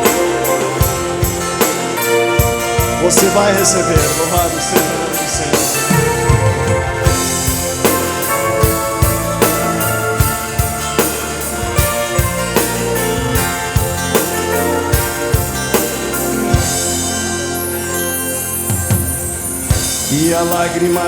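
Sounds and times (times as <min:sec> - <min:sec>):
bass: 0:00.0 - 0:21.0
drum kit beat: 0:00.0 - 0:21.0
keyboard chords: 0:00.0 - 0:21.0.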